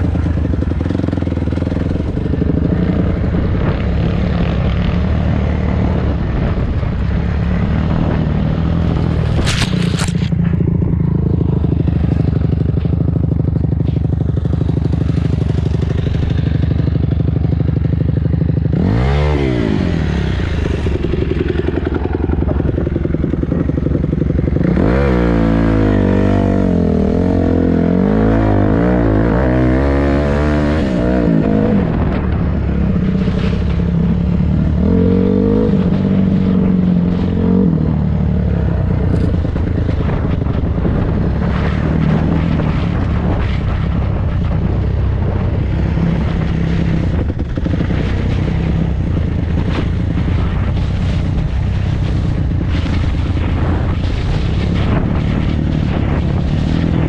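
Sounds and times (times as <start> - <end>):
dirt bike engine revving: 7.4 - 57.0.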